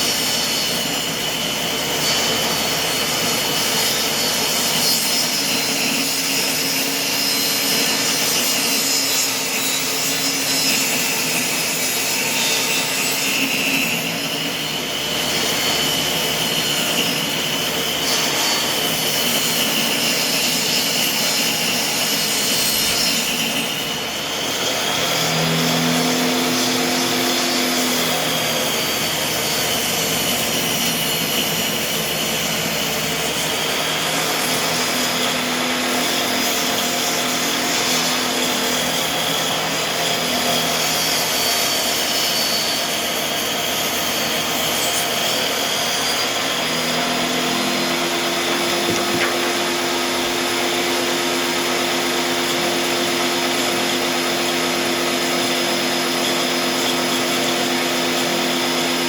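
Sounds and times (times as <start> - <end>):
electric saw cutting wood: 0.0 - 59.0.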